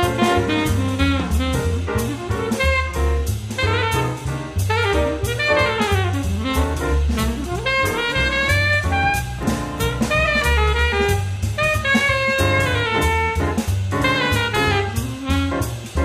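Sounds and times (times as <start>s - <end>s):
jazz music with saxophone: 0.0s - 16.0s.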